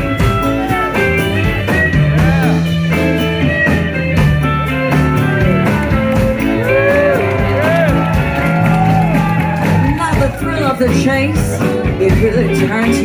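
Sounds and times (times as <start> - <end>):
lead guitar bending notes: 0.0 - 12.9
bass guitar notes: 0.0 - 13.0
drums: 0.0 - 13.0.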